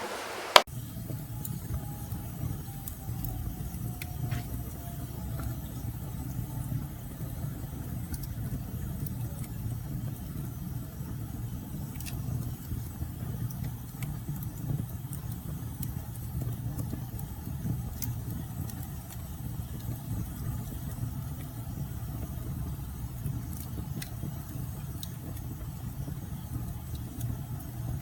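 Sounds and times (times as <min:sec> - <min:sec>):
fire crackles and pops: 0:00.0 - 0:28.0
wood fire roaring: 0:00.0 - 0:28.0.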